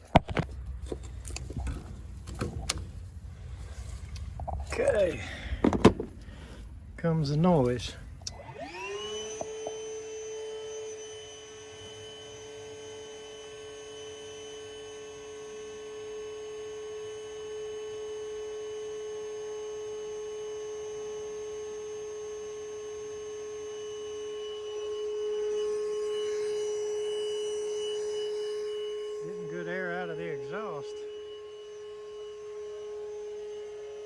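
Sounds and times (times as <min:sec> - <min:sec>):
vacuum motor whining: 0:00.0 - 0:34.0.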